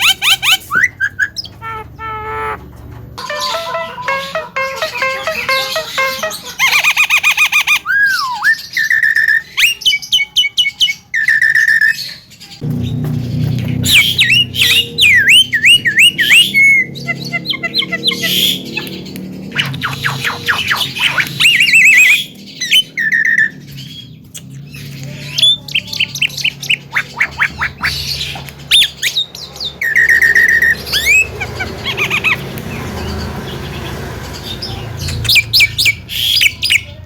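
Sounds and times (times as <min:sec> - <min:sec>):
myna bird singing: 0:00.0 - 0:37.0.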